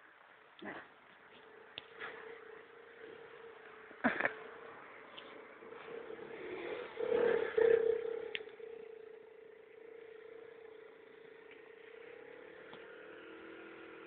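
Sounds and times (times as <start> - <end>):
scooter engine droning: 1.4 - 14.0.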